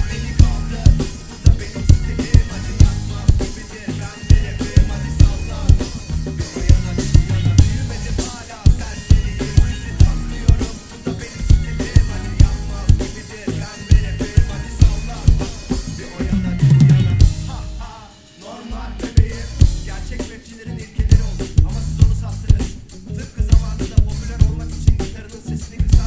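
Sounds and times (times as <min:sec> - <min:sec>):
heavy tom fill: 0:00.0 - 0:18.1, 0:18.9 - 0:25.2
drum kit groove: 0:00.0 - 0:26.0.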